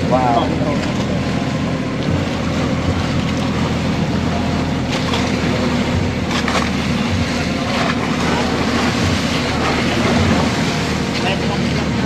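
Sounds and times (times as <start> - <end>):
boat engine running: 0.0 - 12.0
water wash: 0.0 - 12.0
wind: 0.0 - 12.0.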